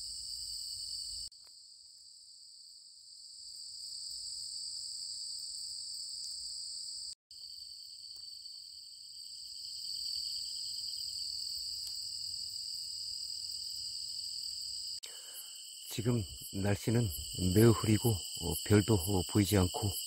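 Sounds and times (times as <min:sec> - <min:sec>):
low pulsing insect trill: 0:00.0 - 0:20.0
crickets trilling: 0:03.5 - 0:20.0.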